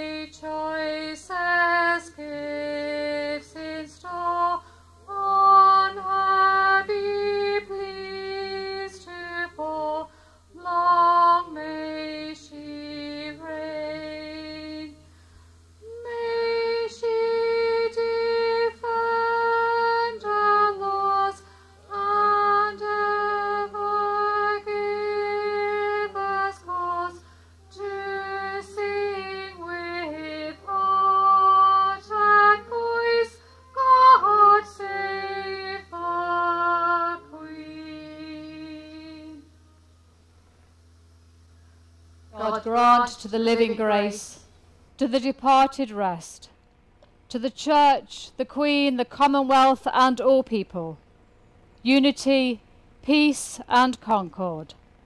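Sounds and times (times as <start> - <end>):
woman singing unaccompanied: 0.0 - 39.8, 42.3 - 46.5, 47.3 - 51.0, 51.8 - 54.8.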